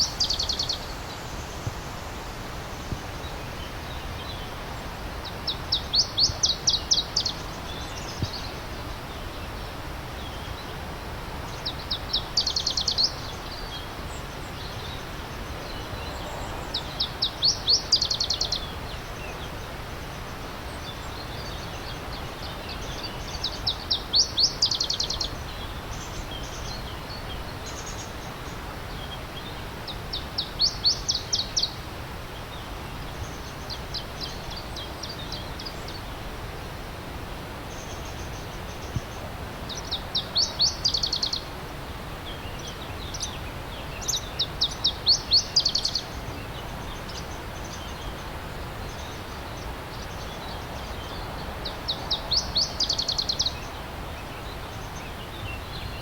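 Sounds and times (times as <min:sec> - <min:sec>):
songbird singing: 0:00.0 - 0:56.0
stream rushing: 0:00.0 - 0:56.0.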